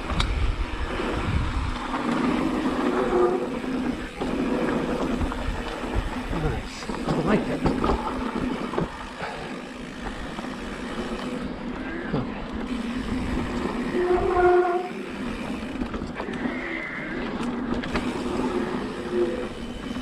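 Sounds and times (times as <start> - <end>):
electric bike motor hum: 0.0 - 20.0
tyres rattling on dirt trail: 0.0 - 20.0.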